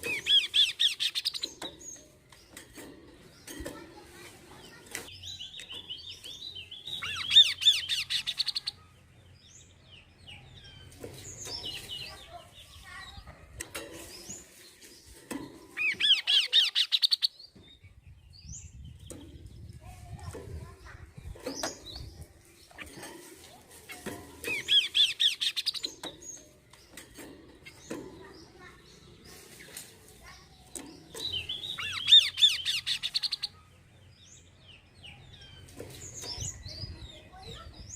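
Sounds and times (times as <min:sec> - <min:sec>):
bird singing: 0:00.0 - 0:23.2, 0:23.8 - 0:37.9.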